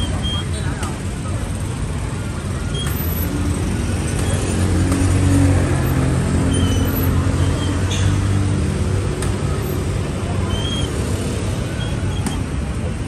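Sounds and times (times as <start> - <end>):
engine hum close by: 0.0 - 13.0
road noise: 0.0 - 13.0.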